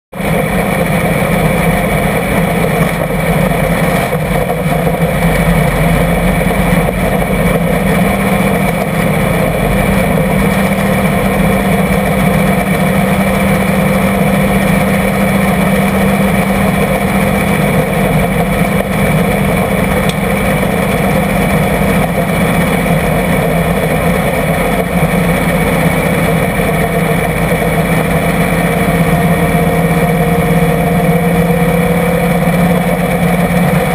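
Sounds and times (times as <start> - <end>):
race car engine running: 0.1 - 33.9.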